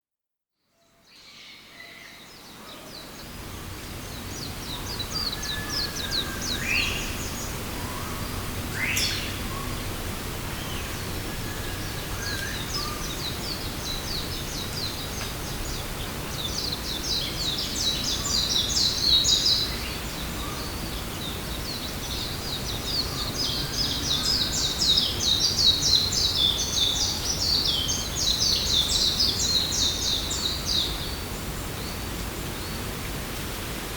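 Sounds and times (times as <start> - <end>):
low rumble and hiss: 2.2 - 33.9.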